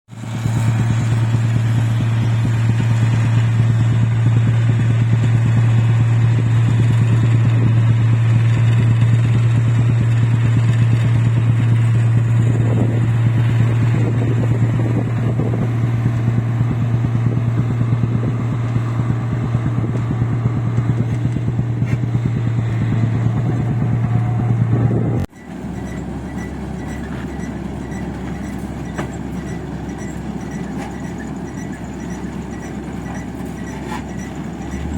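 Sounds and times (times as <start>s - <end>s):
combine harvester engine humming: 0.1s - 34.9s.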